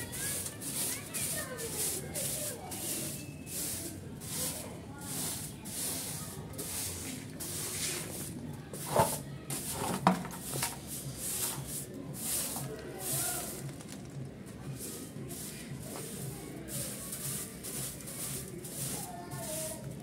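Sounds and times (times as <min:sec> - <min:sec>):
broom sweeping concrete floor: 0:00.0 - 0:20.0.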